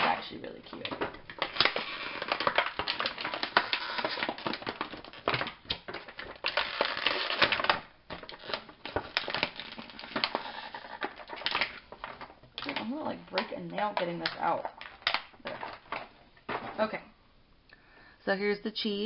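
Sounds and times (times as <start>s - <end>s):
toy packaging crackling: 0.0s - 16.9s.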